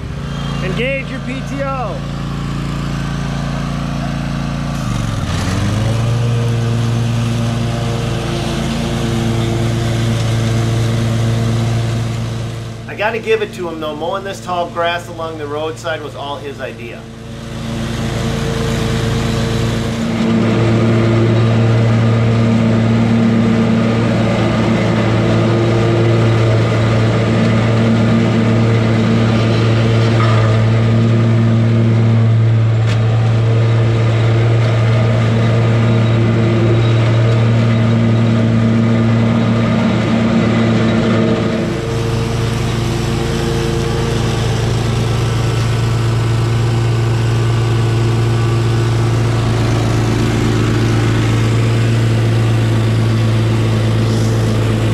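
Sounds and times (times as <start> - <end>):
mower engine running: 0.0 - 54.9.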